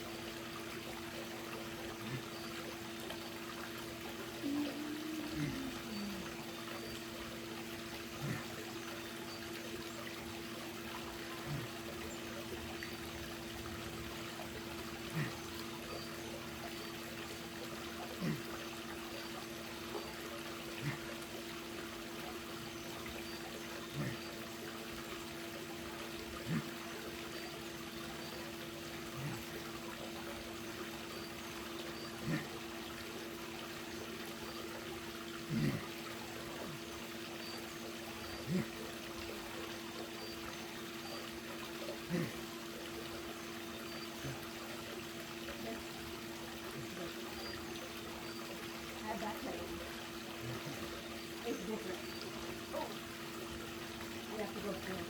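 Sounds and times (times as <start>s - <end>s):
steady low hum: 0.0s - 54.2s
pool water trickling and lapping: 0.0s - 55.0s.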